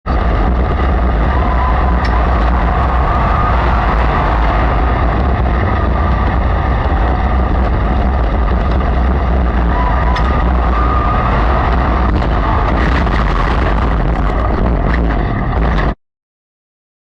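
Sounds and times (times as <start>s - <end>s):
sprint car engines rumbling: 0.0s - 16.0s.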